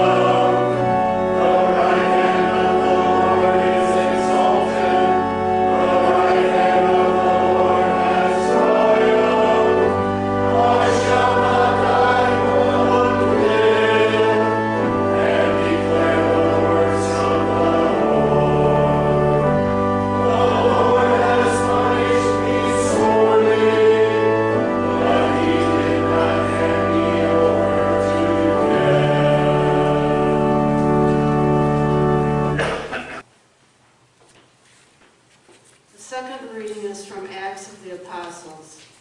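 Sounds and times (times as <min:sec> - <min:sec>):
group singing a hymn: 0:00.0 - 0:33.2
held accompanying chords: 0:00.0 - 0:33.3.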